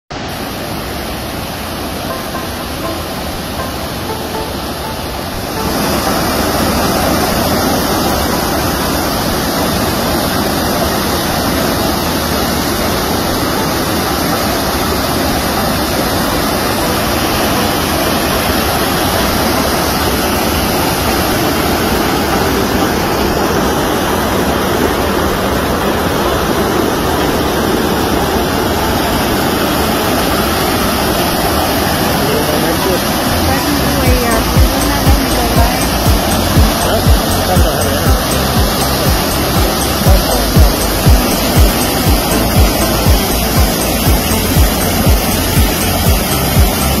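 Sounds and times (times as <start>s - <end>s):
river pouring over weir: 0.1s - 47.0s.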